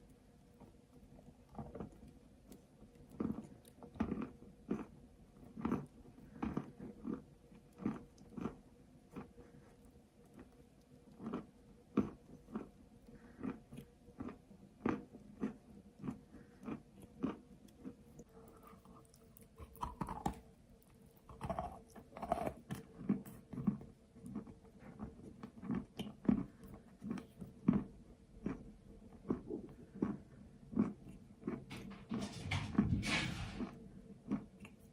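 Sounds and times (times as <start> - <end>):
chewing with dry crunches: 0.0 - 32.0, 33.9 - 34.9.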